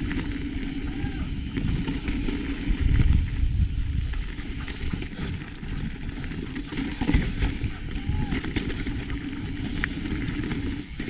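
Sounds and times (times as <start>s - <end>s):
bike rattling and knocking: 0.0s - 11.0s
wind rumbling on microphone: 0.0s - 11.0s.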